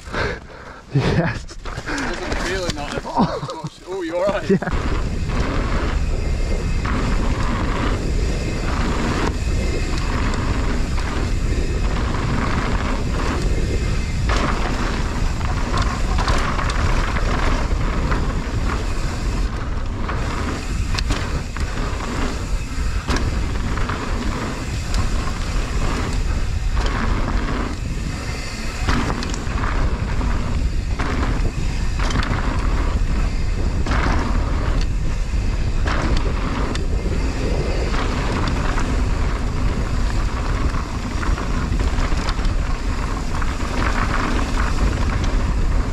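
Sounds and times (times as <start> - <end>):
tyre noise on dirt: 0.0 - 45.9
wind buffeting microphone: 1.5 - 45.9
bike clattering over bumps: 1.6 - 45.9.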